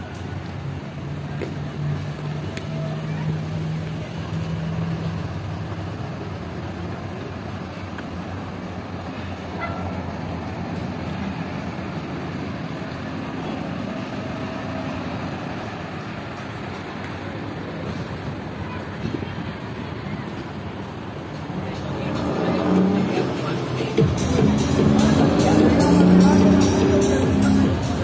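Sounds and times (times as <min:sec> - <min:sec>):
low engine hum: 0:00.0 - 0:28.0
vehicle rumble: 0:00.0 - 0:28.0.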